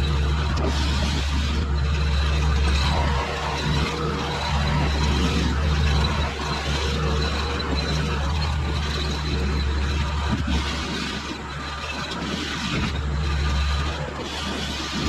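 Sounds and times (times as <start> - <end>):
skid steer engine droning: 0.0 - 15.0.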